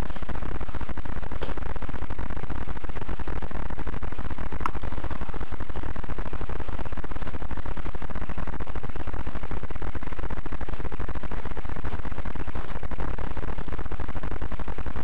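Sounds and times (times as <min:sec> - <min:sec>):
electrical buzz: 0:00.0 - 0:15.0.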